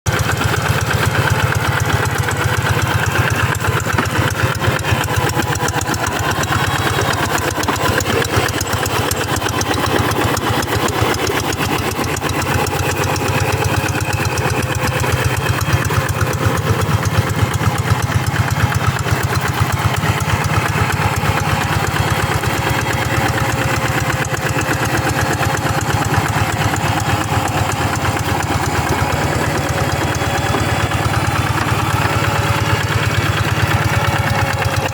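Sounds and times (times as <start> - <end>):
hand tractor engine chugging: 0.1 - 34.9.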